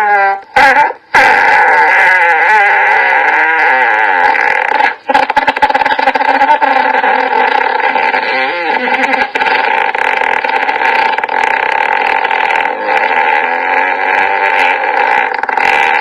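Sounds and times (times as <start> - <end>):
buzzing fart sound effect: 0.0 - 16.0.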